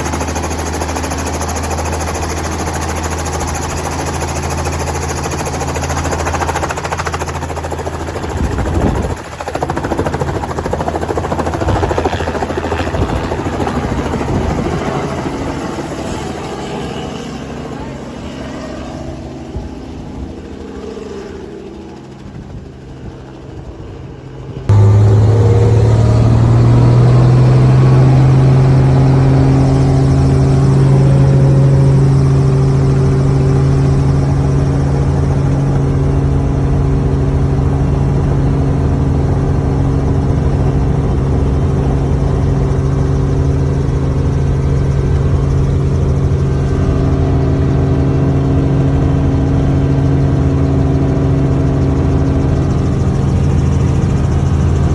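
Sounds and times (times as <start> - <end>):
engine running with low hum: 0.0 - 54.9.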